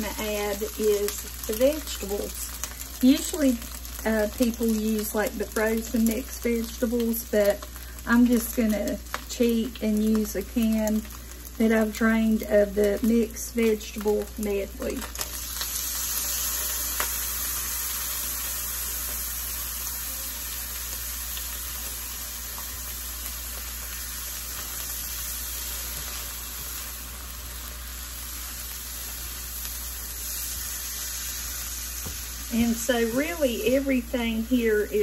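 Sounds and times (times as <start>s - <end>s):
vegetables and egg sizzling in pan: 0.0s - 35.0s.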